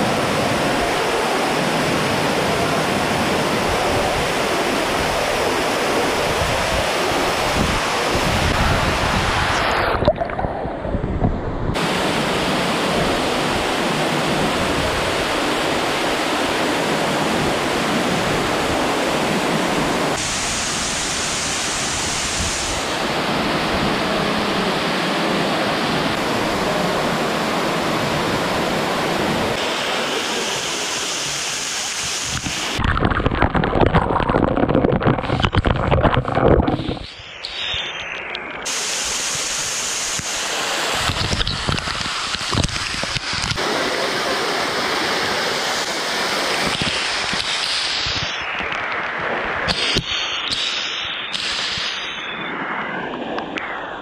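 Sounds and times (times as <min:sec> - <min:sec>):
waterfall rushing into pool: 0:00.0 - 0:10.5, 0:11.7 - 0:54.0.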